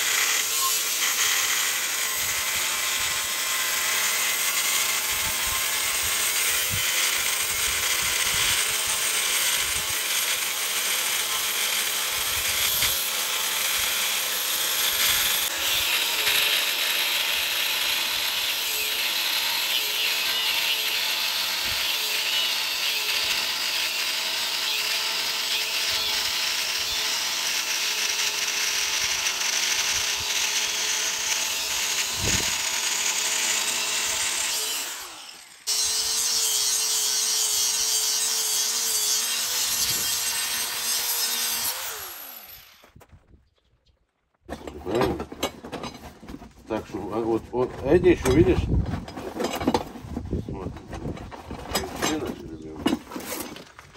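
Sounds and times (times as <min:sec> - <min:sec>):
angle grinder cutting steel: 0:00.0 - 0:42.8, 0:51.7 - 0:53.6.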